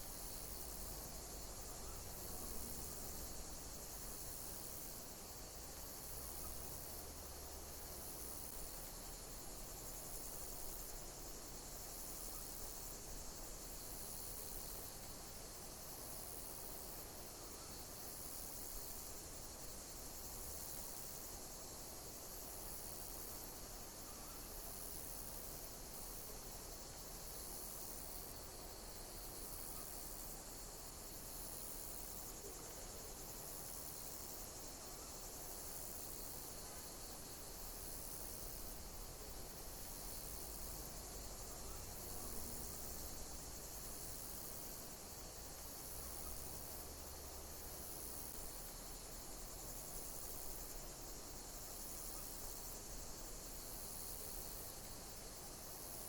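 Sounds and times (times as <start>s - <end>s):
insects chirping: 0.0s - 56.0s
steady background hiss: 0.0s - 56.0s.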